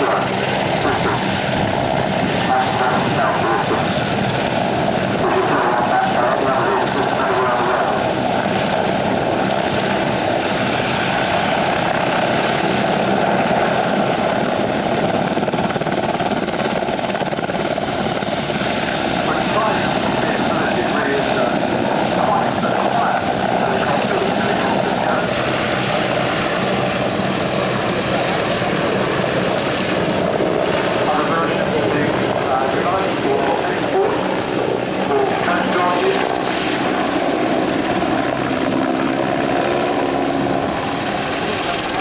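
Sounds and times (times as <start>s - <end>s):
aircraft engine drone: 0.0s - 42.0s.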